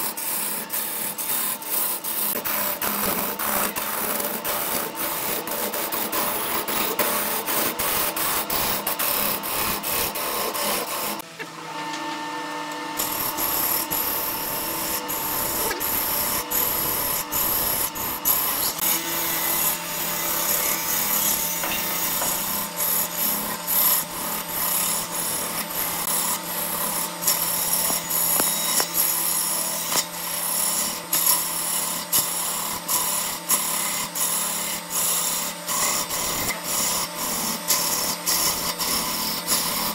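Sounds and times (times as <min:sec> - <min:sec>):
turning tool scraping wood: 0:00.0 - 0:11.2, 0:12.9 - 0:39.9
lathe motor hum: 0:00.0 - 0:39.9.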